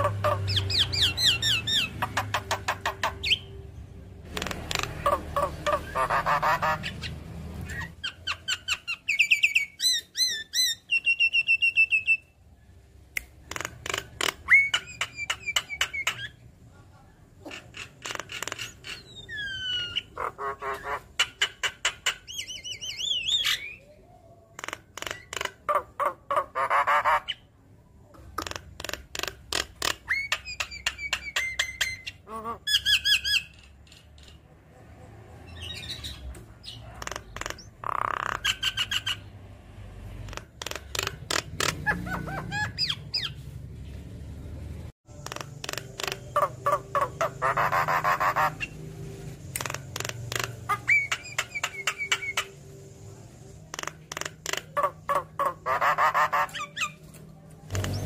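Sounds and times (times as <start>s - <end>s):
bird singing chattering song: 0.0s - 12.4s, 13.4s - 16.5s, 17.4s - 27.5s, 28.4s - 34.4s, 35.5s - 39.4s, 40.3s - 44.1s, 45.1s - 58.0s.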